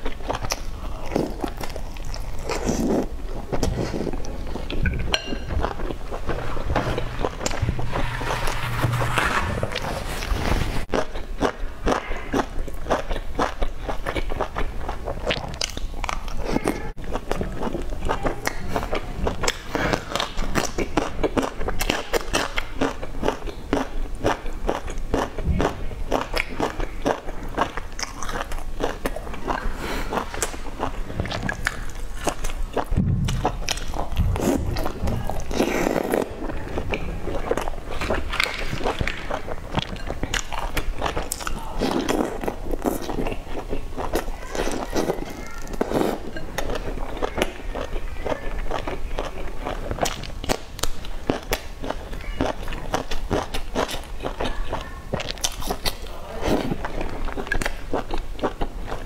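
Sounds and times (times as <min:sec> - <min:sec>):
person chewing food: 0:00.0 - 0:08.7, 0:10.8 - 0:59.0.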